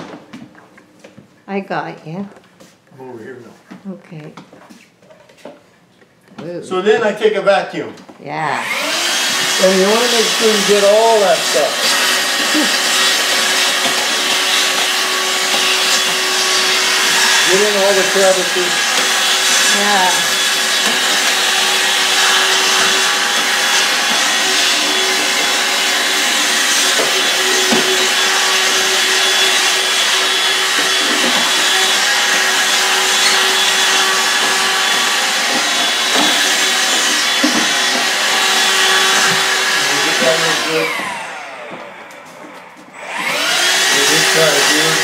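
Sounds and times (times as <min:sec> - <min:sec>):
handheld vacuum cleaner running: 0:08.3 - 0:45.0.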